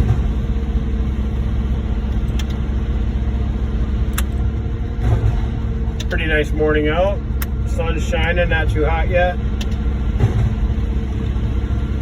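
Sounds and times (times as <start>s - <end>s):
diesel truck engines rumbling: 0.0s - 12.0s.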